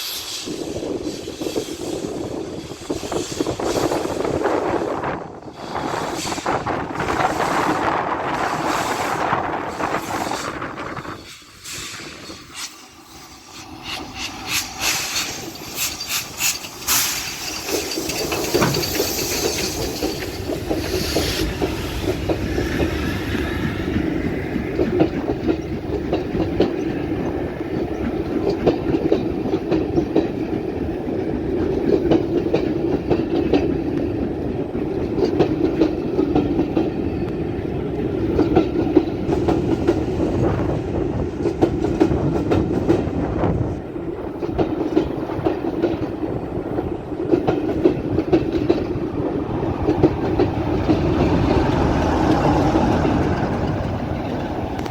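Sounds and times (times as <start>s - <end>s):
train rolling by: 0.0s - 54.9s
train wheels clicking over rail joints: 0.0s - 54.9s.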